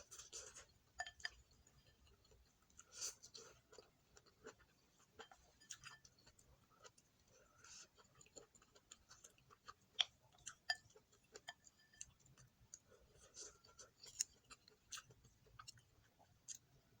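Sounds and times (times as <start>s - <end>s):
chewing: 0.0s - 16.7s.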